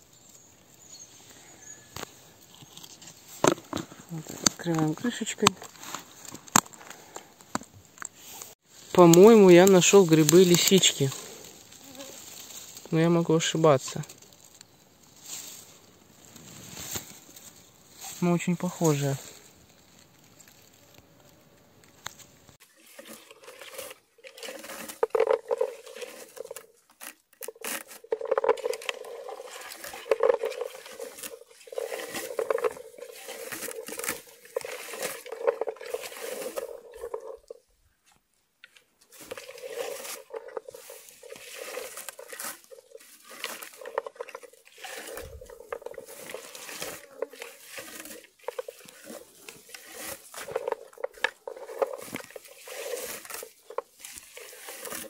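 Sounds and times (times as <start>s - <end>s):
berry comb rustling through bushes: 0.0s - 55.0s.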